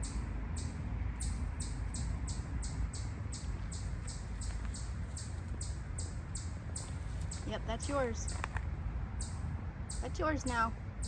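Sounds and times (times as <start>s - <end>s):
insect chirping: 0.0s - 8.6s, 9.2s - 10.2s.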